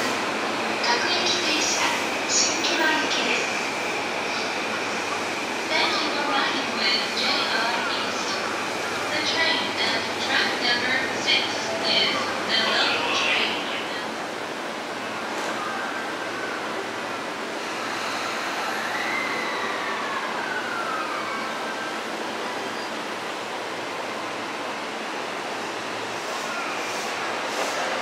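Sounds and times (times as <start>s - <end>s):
electric train wheel and track noise: 0.0s - 28.0s
faint train whine: 0.0s - 28.0s.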